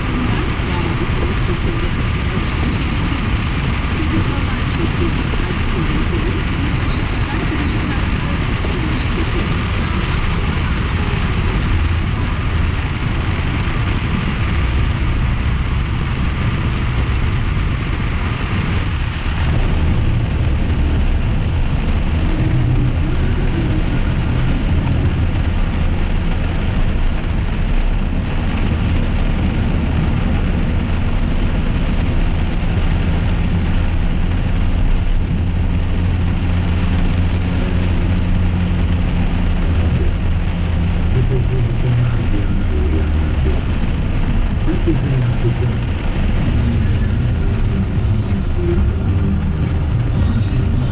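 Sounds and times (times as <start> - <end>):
engine and road rumble: 0.0 - 50.9
rain on car: 0.0 - 50.9.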